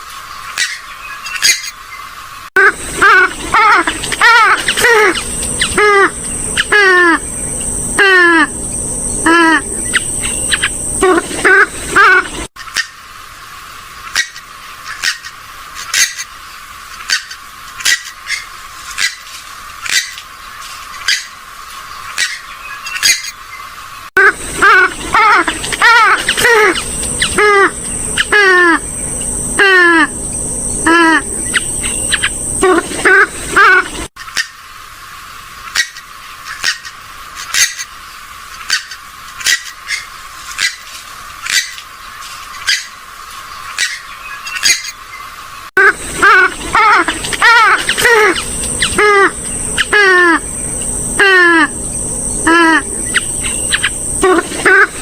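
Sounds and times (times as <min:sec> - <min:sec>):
waterbird calling: 0:00.3 - 0:13.0, 0:14.0 - 0:16.3, 0:17.0 - 0:34.7, 0:35.6 - 0:55.0.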